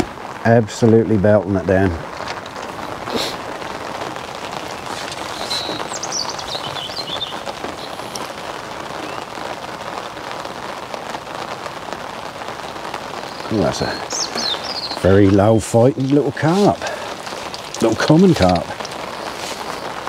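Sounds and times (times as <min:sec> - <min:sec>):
heavy rain on umbrella and lake: 0:00.0 - 0:20.0.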